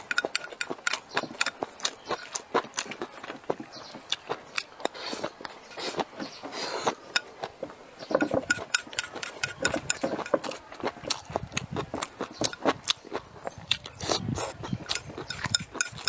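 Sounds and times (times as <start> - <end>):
chopsticks against bowl: 0.0 - 3.1, 4.5 - 11.3, 11.9 - 13.0, 14.0 - 16.0
crunchy chewing: 0.0 - 16.0.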